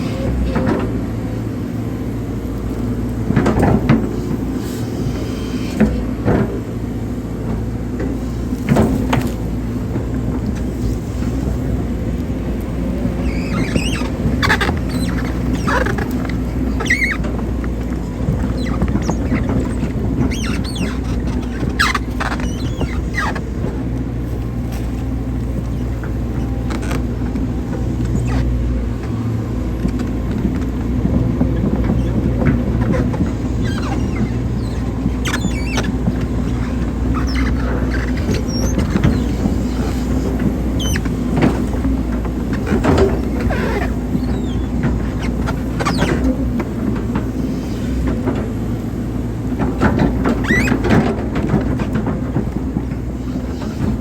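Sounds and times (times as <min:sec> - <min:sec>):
excavator arm squeaks and clicks: 0:00.0 - 0:01.0, 0:03.4 - 0:06.5, 0:07.5 - 0:54.0
excavator diesel engine running: 0:00.0 - 0:54.0.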